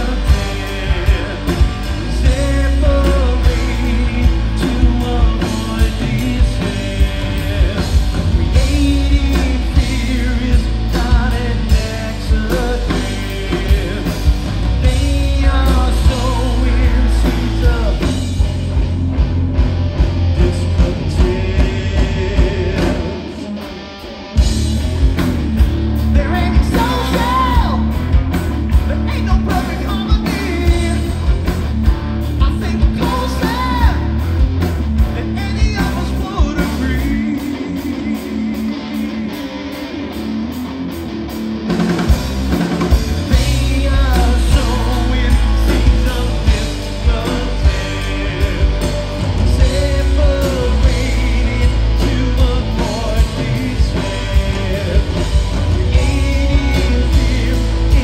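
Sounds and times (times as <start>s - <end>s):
man singing: 0.0s - 18.7s, 20.1s - 23.6s, 26.0s - 28.2s, 28.8s - 31.5s, 32.3s - 34.4s, 35.1s - 40.0s, 42.6s - 58.0s
drums: 0.0s - 58.0s
electric guitar: 0.0s - 58.0s.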